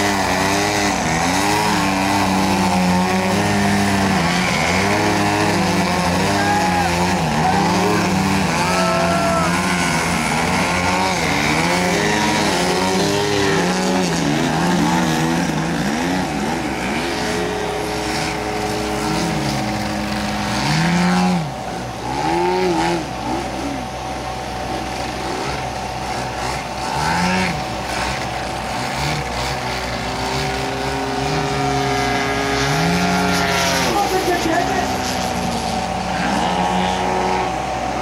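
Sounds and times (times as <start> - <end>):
model plane engines revving: 0.0 - 38.0.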